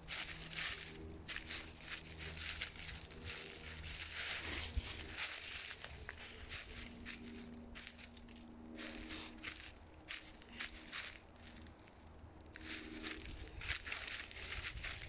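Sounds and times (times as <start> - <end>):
footsteps crunching on ground: 0.0 - 15.0.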